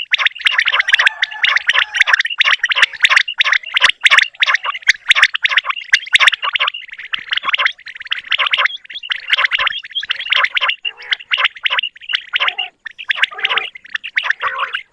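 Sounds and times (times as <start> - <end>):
quails calling: 0.0 - 14.9.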